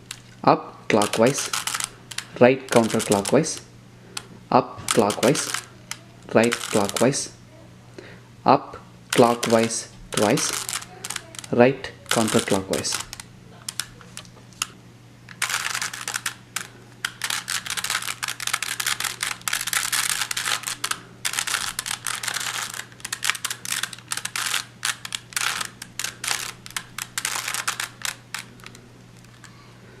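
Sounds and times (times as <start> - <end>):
plastic puzzle cube clicking: 1.0 - 3.6, 4.9 - 7.1, 9.1 - 14.7, 15.3 - 29.5.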